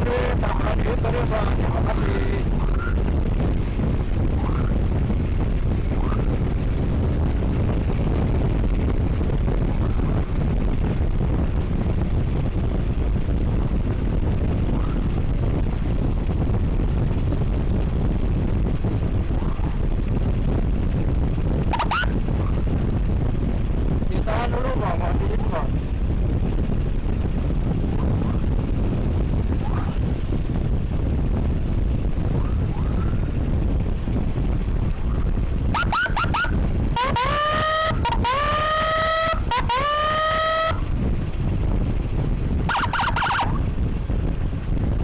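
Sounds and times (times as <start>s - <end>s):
road noise: 0.0s - 45.0s
wind buffeting microphone: 0.0s - 45.0s.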